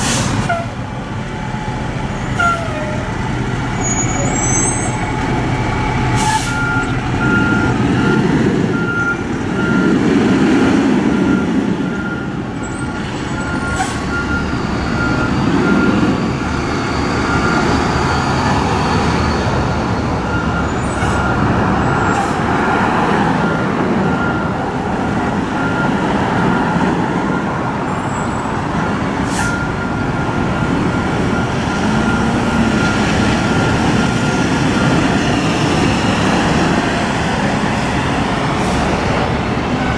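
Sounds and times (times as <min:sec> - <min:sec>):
diesel engine running: 0:00.0 - 0:39.9
reversing alarm beeping: 0:01.3 - 0:10.0, 0:11.2 - 0:38.8.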